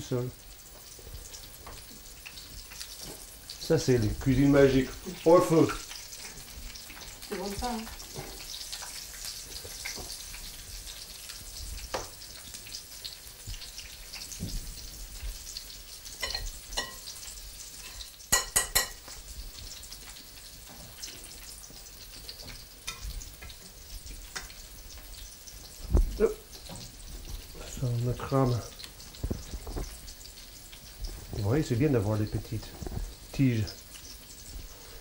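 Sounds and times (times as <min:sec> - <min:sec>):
fritters sizzling in hot oil: 0:00.0 - 0:35.0.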